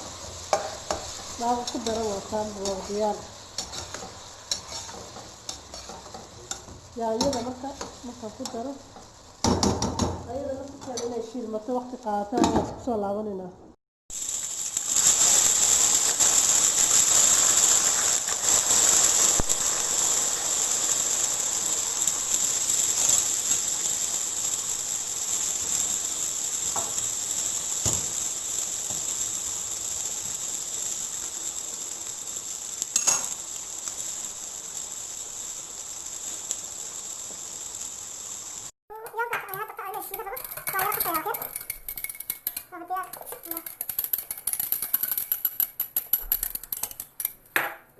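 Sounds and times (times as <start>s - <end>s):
food sizzling in oil: 0.0s - 12.5s, 14.1s - 47.9s.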